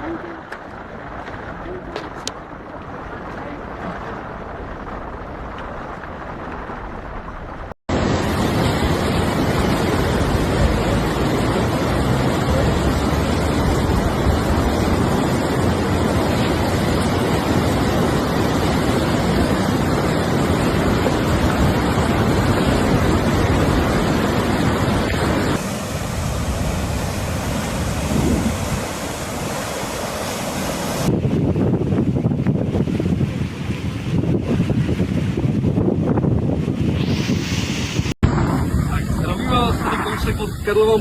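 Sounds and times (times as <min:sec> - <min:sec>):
rushing water: 0:00.0 - 0:41.0
wind buffeting microphone: 0:00.0 - 0:41.0.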